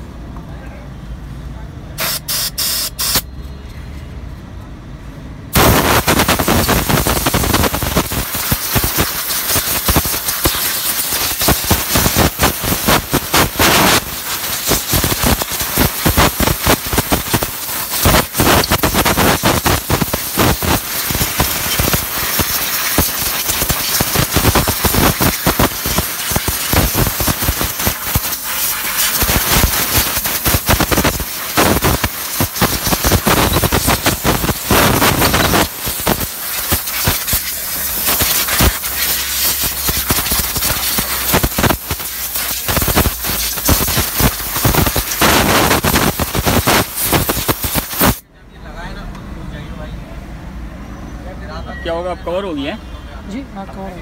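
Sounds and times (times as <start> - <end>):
high-pressure water spray hissing: 2.0 - 3.2, 5.6 - 48.2.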